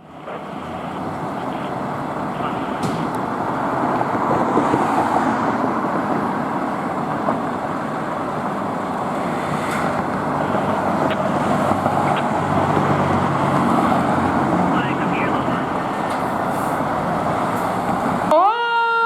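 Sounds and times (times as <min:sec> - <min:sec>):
fire engine engine: 0:00.0 - 0:19.0
road noise: 0:00.0 - 0:19.0.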